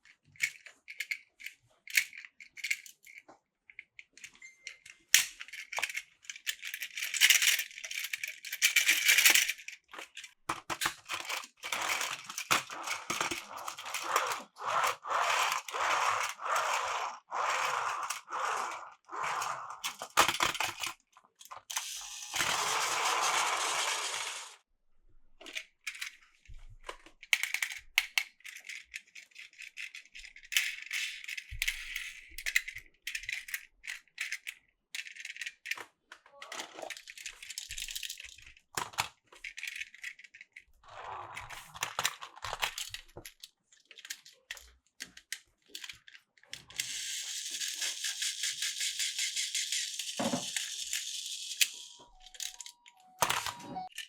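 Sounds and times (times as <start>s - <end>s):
toy trains and track clattering: 0.0s - 24.6s, 25.4s - 54.0s.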